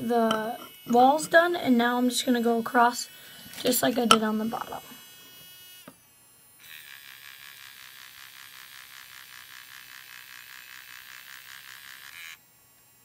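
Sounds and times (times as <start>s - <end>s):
pulsing mechanical buzz: 0.0s - 13.0s.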